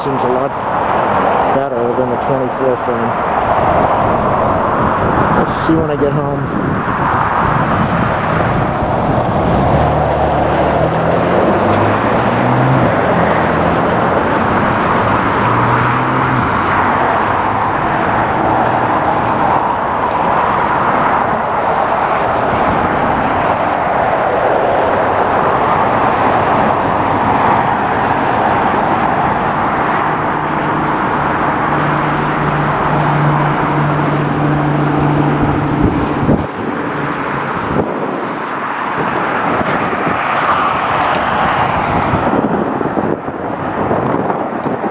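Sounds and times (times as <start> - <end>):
jet engines roaring: 0.0 - 44.9
low hum shifting pitch: 2.8 - 39.8.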